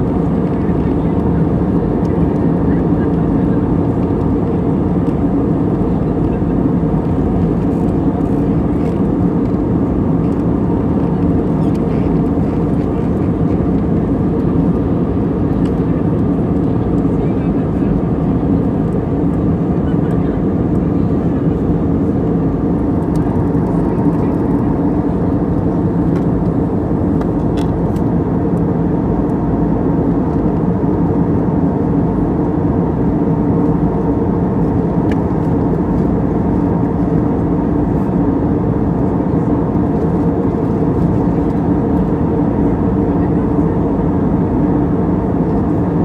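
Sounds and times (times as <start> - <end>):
jet cabin engine rumble: 0.0 - 46.0.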